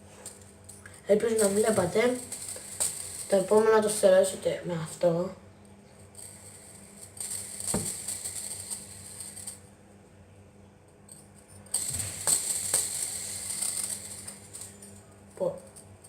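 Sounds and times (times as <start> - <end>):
fidget spinner whirring: 0.1 - 5.3, 6.0 - 9.7, 11.1 - 16.0.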